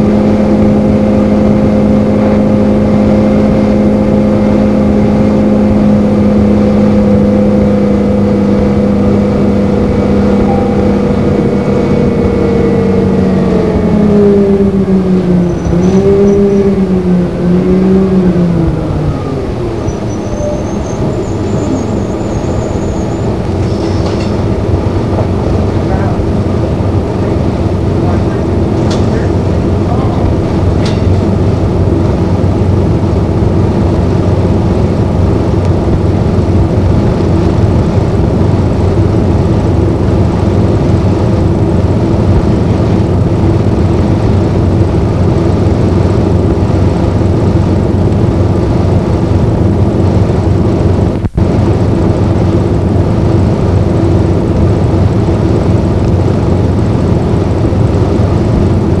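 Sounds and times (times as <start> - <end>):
bus fan drone: 0.0 - 59.0
diesel engine: 0.0 - 59.0.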